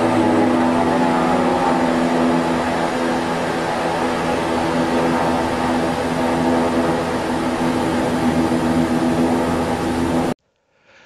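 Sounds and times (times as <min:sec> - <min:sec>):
turboprop engines droning: 0:00.0 - 0:10.4.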